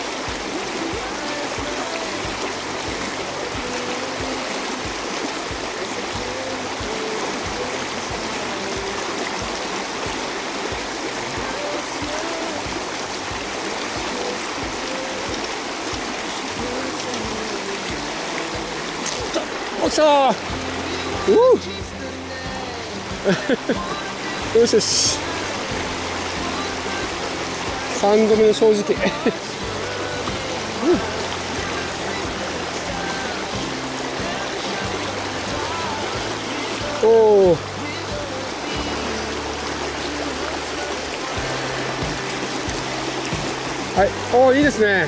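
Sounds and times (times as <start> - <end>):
faint background music: 0.0 - 45.0
river water rushing over rocks: 0.0 - 45.0.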